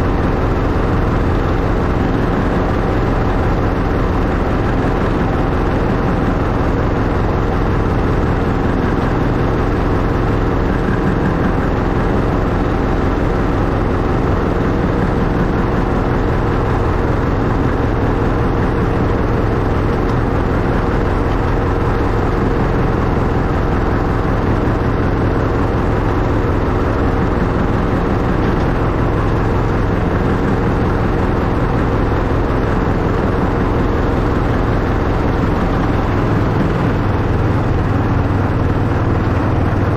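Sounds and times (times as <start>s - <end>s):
miniature train running on track: 0.0s - 39.9s.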